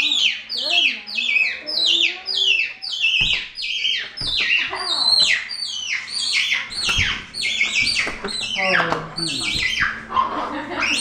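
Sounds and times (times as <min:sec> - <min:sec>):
monkey squealing: 0:00.0 - 0:11.0.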